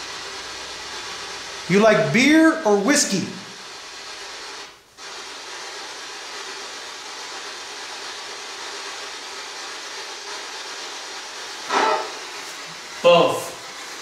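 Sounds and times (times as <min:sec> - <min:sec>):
radio static hissing: 0:00.0 - 0:14.0.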